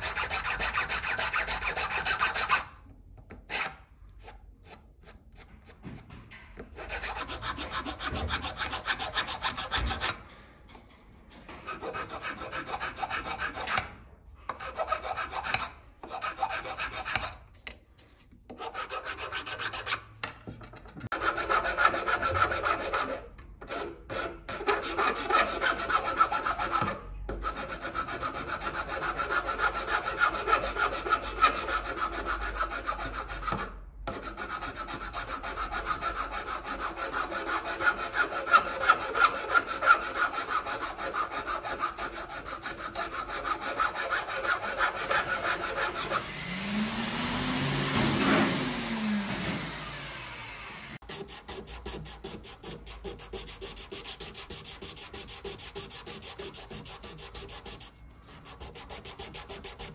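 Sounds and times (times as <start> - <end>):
metal file rasping on plastic: 0.0 - 5.8, 6.8 - 10.3, 11.6 - 17.5, 18.5 - 20.1, 21.0 - 46.3, 51.0 - 59.9.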